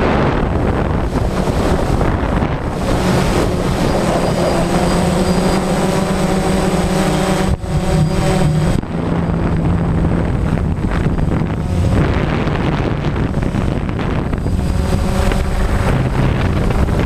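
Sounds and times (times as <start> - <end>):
drone propellers buzzing: 0.0 - 17.0
wind noise on microphone: 0.0 - 17.0.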